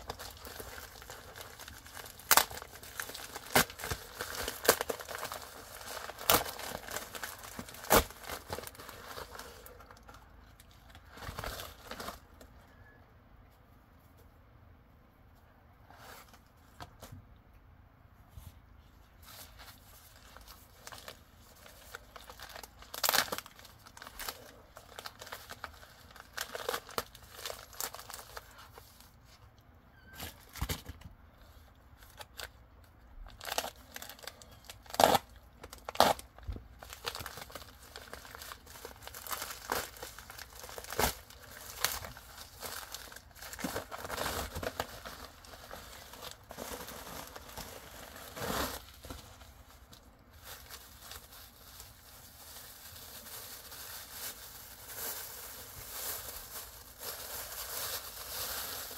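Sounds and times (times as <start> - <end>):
plastic mailer crinkling and tearing: 0.0 - 12.5, 19.2 - 29.2, 30.2 - 58.9
sharp plastic crackles: 0.0 - 12.5, 19.8 - 28.6, 32.0 - 58.9.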